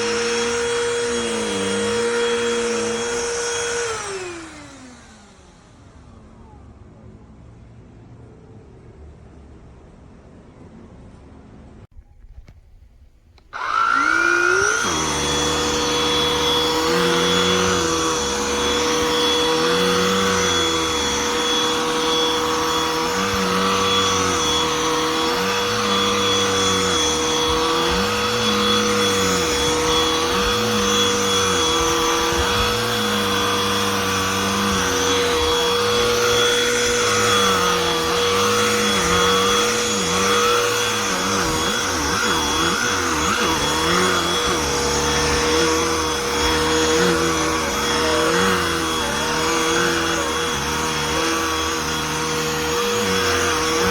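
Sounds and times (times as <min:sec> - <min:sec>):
handheld vacuum motor whining: 0:00.0 - 0:06.0, 0:13.4 - 0:53.9.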